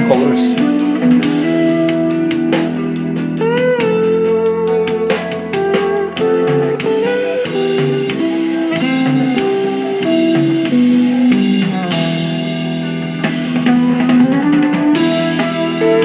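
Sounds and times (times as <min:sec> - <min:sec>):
guitar-led song with drums: 0:00.0 - 0:16.0.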